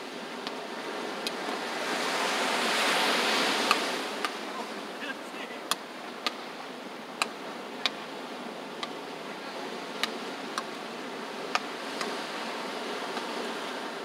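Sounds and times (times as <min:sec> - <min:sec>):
surf washing: 0:00.0 - 0:14.0.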